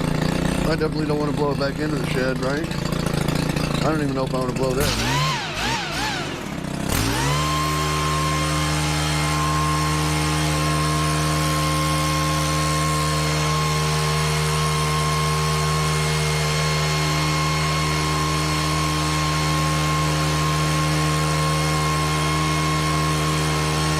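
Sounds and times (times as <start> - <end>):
leaf blower engine revving: 0.0 - 23.9.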